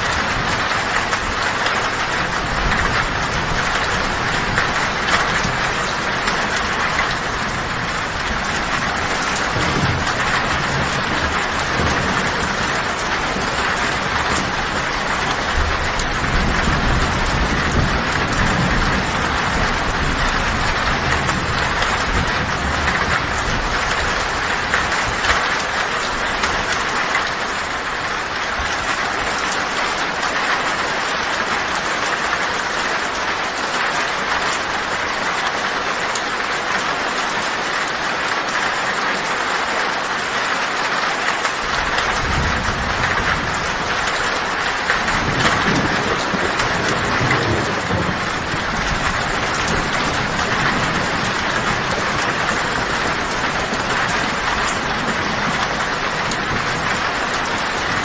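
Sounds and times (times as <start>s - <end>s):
low thunder rumbling: 0.0s - 32.9s, 41.7s - 58.0s
heavy rain on a tin roof: 0.0s - 58.0s.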